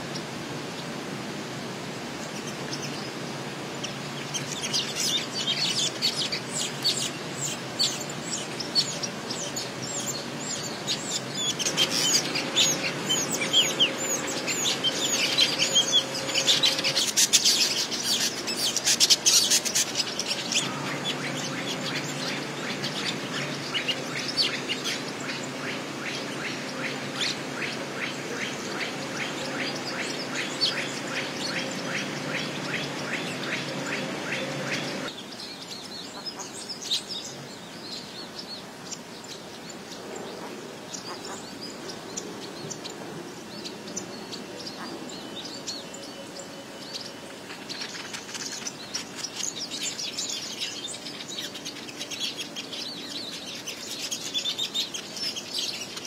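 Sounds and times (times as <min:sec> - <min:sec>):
birds chattering: 0:02.2 - 0:56.0.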